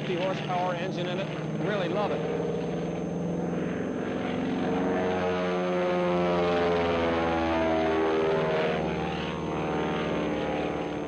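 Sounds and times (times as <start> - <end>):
biplane radial engine and propeller: 0.0 - 11.0.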